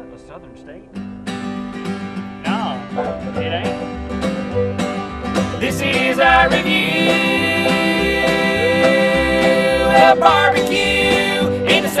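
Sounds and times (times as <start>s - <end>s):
acoustic guitars strumming: 0.0s - 12.0s
upright bass: 0.0s - 12.0s.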